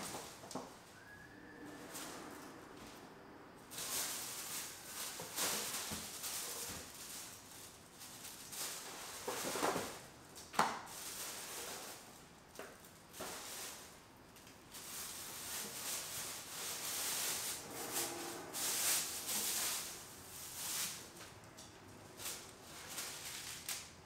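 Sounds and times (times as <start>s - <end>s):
paper rustling: 3.7s - 24.0s.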